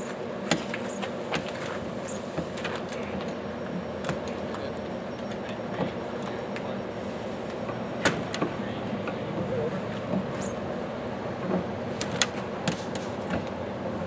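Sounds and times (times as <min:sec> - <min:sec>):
motor running steadily: 0:00.0 - 0:14.0.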